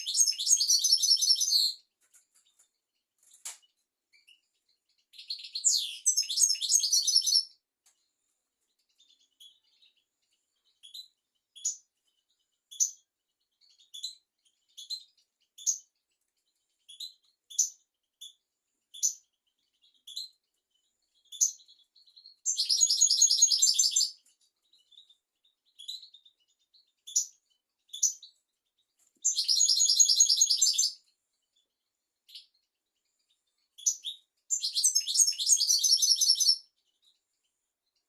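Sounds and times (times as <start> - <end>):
goldfinch high chirps: 0.0 - 2.6, 3.7 - 7.6, 8.7 - 37.2.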